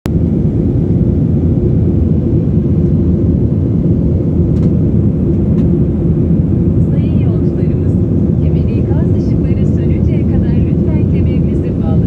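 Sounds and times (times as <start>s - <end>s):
airliner rumble: 0.1s - 12.0s.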